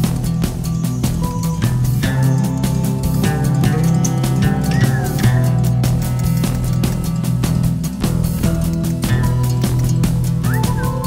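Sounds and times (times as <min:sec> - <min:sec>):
background music with steady beat: 0:00.0 - 0:11.0
low bass line: 0:00.0 - 0:11.0.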